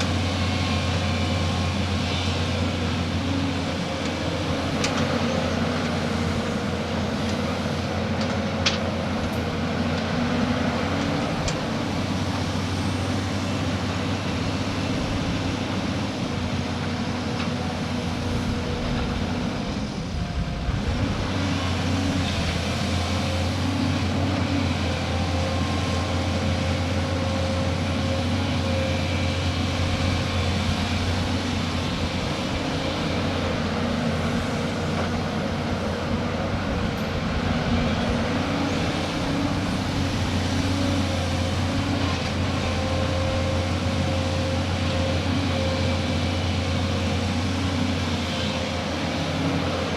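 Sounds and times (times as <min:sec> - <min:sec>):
diesel excavator engine droning: 0:00.0 - 0:49.9.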